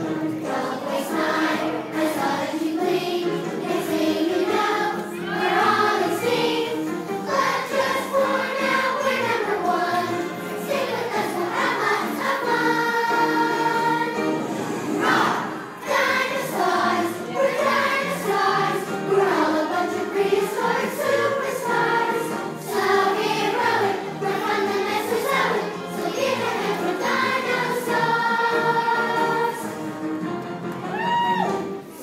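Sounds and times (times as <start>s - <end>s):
children's choir singing: 0.0s - 30.6s
musical accompaniment: 0.0s - 32.0s.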